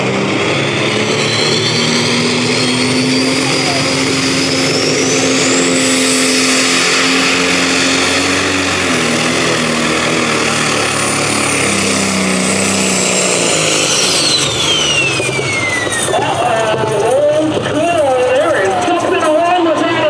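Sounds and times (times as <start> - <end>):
diesel engine under load: 0.0 - 20.0
high turbo whistle: 0.1 - 16.6.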